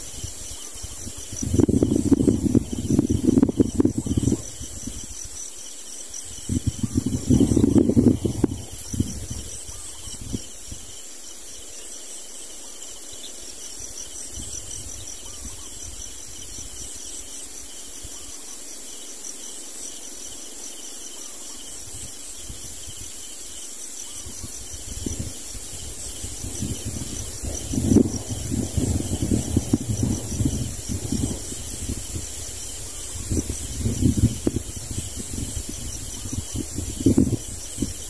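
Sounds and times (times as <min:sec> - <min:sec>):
wind rumble on microphone: 0:00.0 - 0:11.7, 0:12.8 - 0:18.5, 0:21.2 - 0:23.4, 0:24.0 - 0:38.0
insects chirring: 0:00.0 - 0:38.0.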